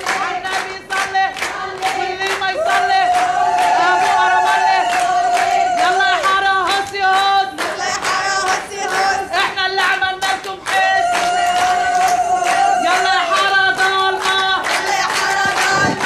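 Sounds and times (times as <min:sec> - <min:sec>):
crowd voices: 0:00.0 - 0:16.0.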